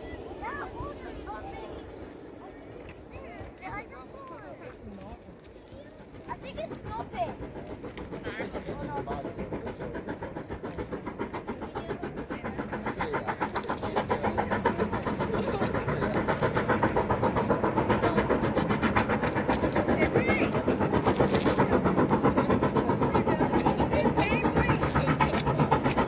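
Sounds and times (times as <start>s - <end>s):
steam train chuffing: 0.0s - 26.0s.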